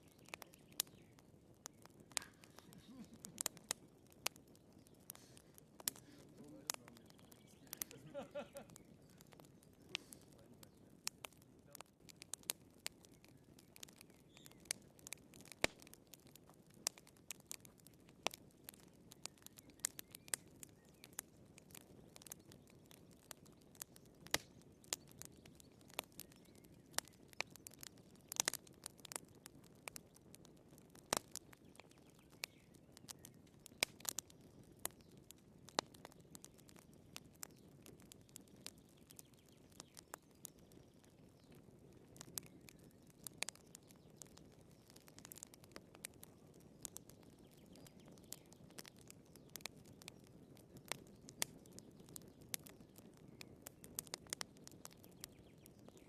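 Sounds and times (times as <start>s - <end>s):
firewood crackling and popping: 0.0s - 56.0s
low rush of flames: 0.0s - 56.0s.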